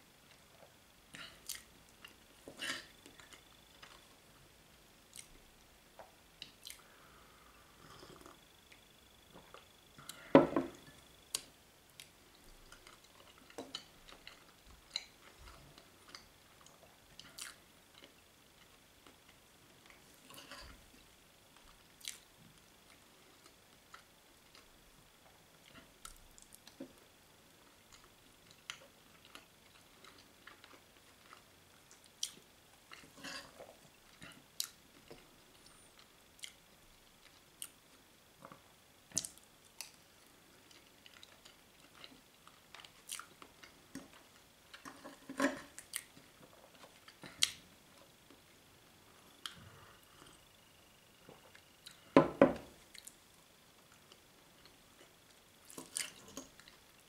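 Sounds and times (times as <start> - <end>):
person chewing food: 0.3 - 4.2, 5.1 - 27.0, 27.6 - 50.6, 51.2 - 57.0.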